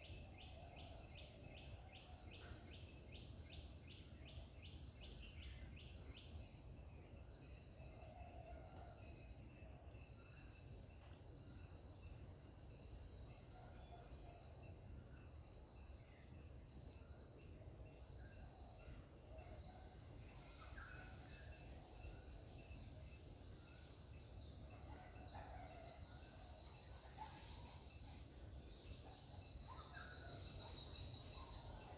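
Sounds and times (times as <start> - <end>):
pulsing high insect song: 0.0 - 8.4, 9.0 - 31.9.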